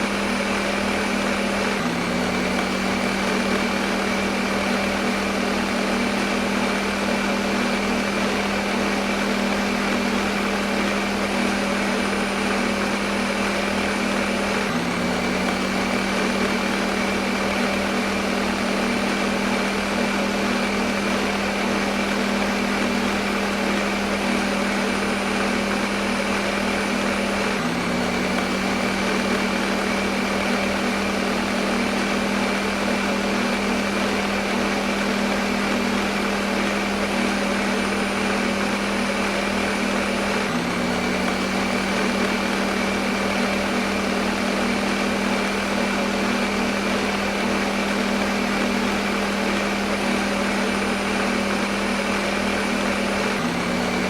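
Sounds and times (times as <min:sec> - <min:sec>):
blender motor running: 0:00.0 - 0:54.0.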